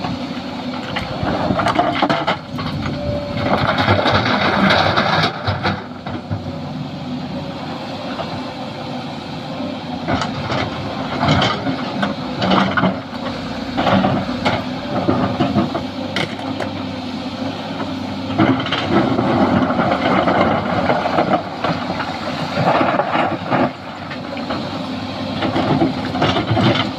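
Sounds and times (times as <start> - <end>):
excavator clanks and knocks: 0.0 - 6.8, 7.4 - 26.9
excavator diesel engine running: 0.0 - 26.9.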